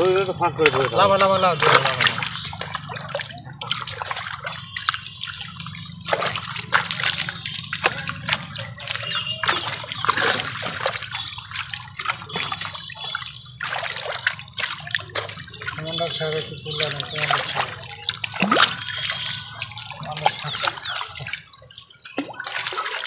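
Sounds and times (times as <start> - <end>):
fish splashing in water: 0.0 - 23.0.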